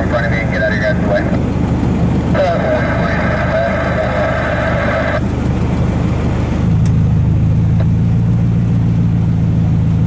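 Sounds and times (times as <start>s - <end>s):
deeper steady hum: 0.0s - 10.0s
low engine rumble: 0.0s - 10.0s.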